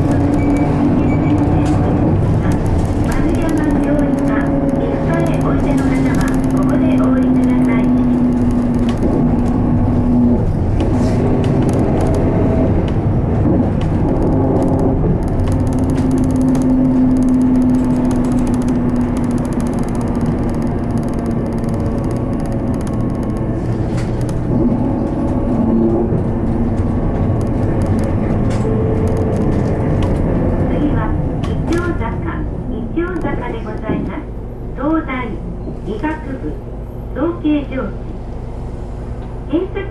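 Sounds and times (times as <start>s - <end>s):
bus drivetrain and road noise: 0.0s - 39.9s.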